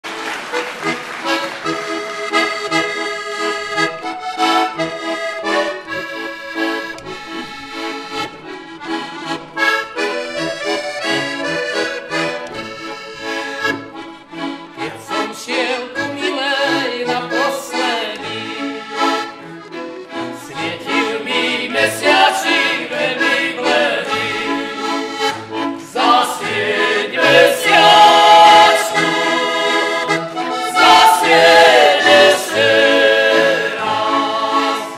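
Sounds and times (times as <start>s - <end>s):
button accordion folk music: 0.1s - 34.9s.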